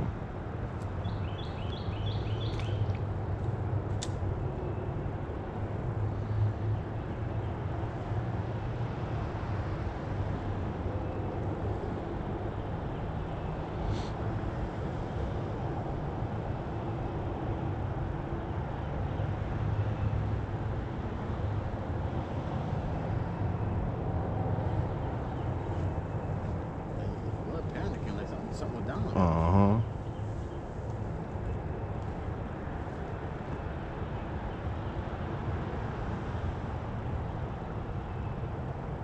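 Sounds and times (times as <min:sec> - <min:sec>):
distant road traffic rumble: 0:00.0 - 0:39.0.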